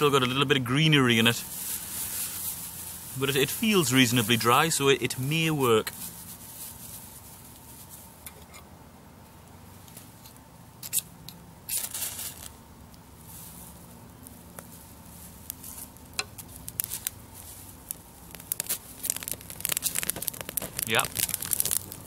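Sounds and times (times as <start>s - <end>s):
dry grass rustling and crackling: 0.0s - 8.3s, 9.7s - 22.0s
striker scraping fire steel: 0.0s - 8.7s, 9.8s - 11.1s, 11.7s - 12.6s, 13.2s - 22.0s.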